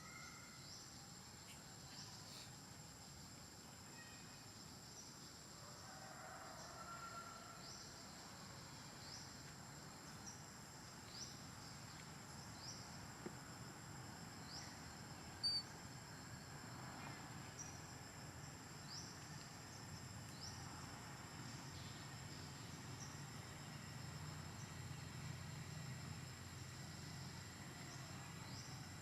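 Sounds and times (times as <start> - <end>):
insect drone with rising chirps: 0.0 - 29.0.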